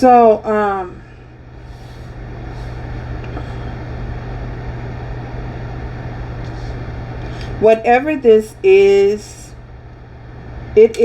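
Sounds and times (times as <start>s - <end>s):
continuous hum: 0.0s - 11.0s
steady low rumble: 0.0s - 11.0s.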